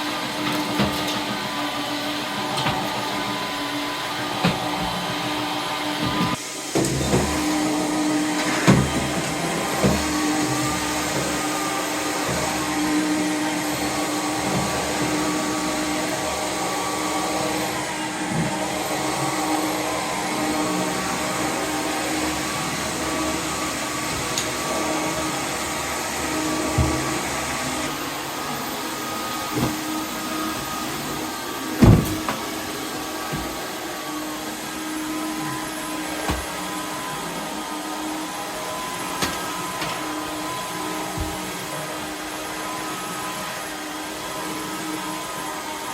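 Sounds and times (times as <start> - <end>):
floor washer motor humming: 0.0 - 45.9.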